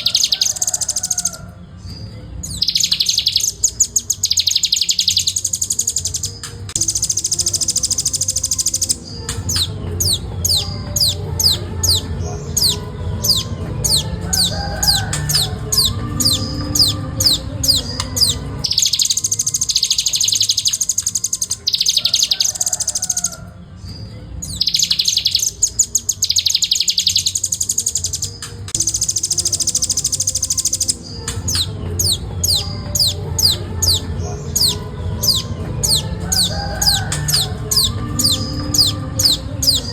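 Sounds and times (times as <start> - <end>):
bird fast trills: 0.0 - 1.5, 2.5 - 23.4, 24.4 - 39.9
bird singing falling notes: 0.0 - 39.9.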